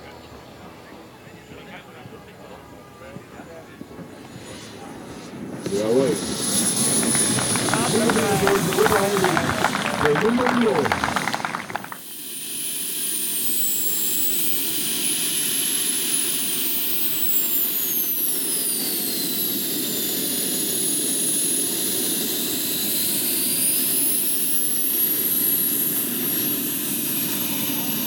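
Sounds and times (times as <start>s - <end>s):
jet turbines whistling whine: 0.0s - 28.0s.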